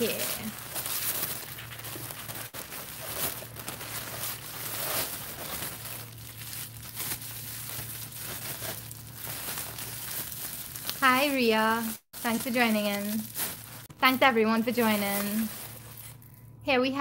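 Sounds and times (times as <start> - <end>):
tissue paper rustling: 0.0 - 16.4
bubble wrap crinkling: 0.0 - 16.6.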